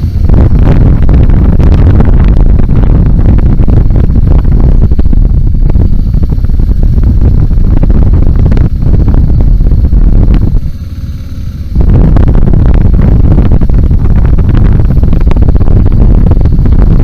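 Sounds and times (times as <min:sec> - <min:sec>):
motorcycle engine running: 0:00.0 - 0:17.0
wind buffeting on microphone: 0:00.0 - 0:17.0.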